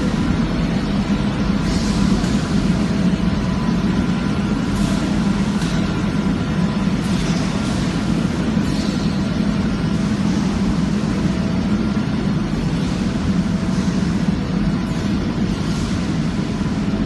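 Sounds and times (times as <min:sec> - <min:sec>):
faint motor whines: 0:00.0 - 0:17.0
machinery drone: 0:00.0 - 0:17.0.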